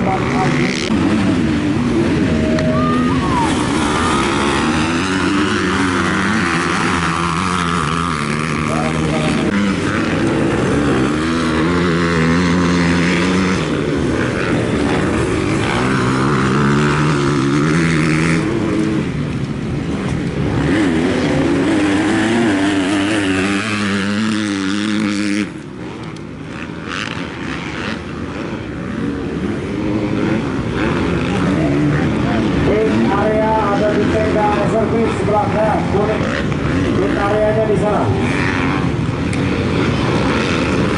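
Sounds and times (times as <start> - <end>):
motocross engines revving: 0.0 - 40.9.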